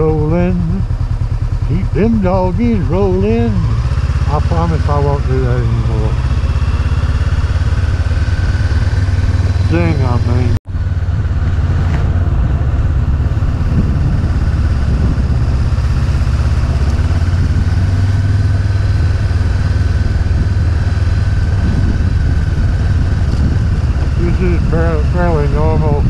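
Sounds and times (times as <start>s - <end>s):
motorcycle engine cruising: 0.0s - 26.0s
road and wind noise: 0.0s - 26.0s.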